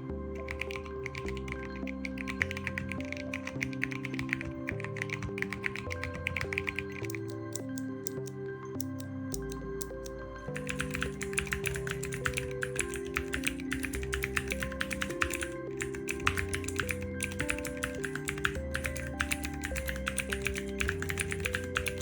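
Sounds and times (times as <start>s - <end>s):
background music: 0.0s - 22.0s
mechanical keyboard typing: 0.4s - 22.0s.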